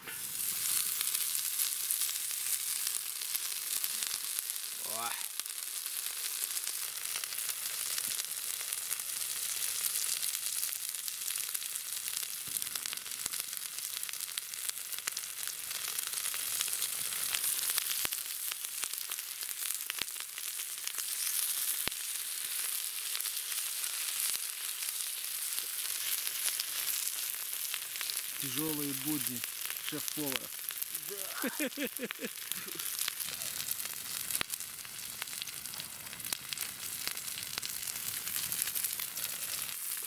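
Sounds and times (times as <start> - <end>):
meat sizzling in fat: 0.0 - 40.0.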